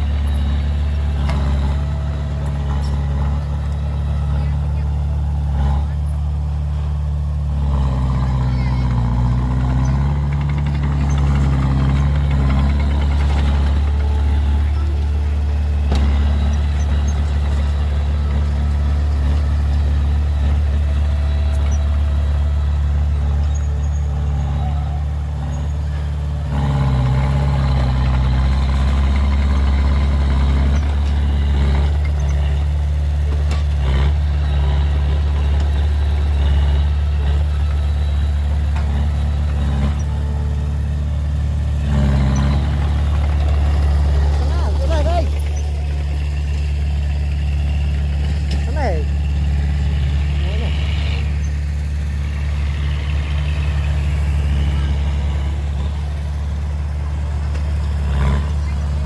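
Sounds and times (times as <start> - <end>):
large diesel engine humming: 0.0 - 59.0.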